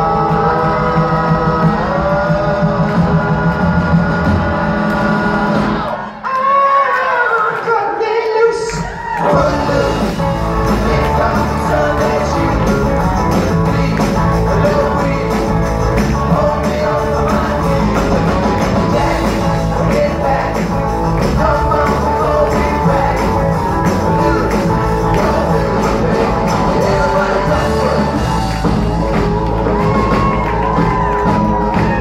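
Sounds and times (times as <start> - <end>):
live rock band playing: 0.0 - 6.1, 9.0 - 32.0
lead singer singing: 0.0 - 32.0.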